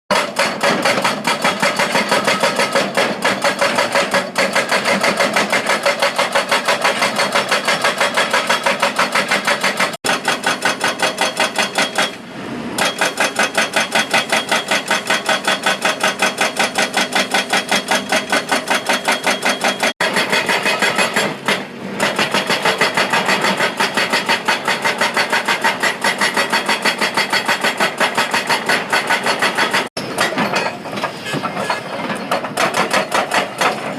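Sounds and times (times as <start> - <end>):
hydraulic breaker pounding: 0.1 - 12.2, 12.8 - 33.9.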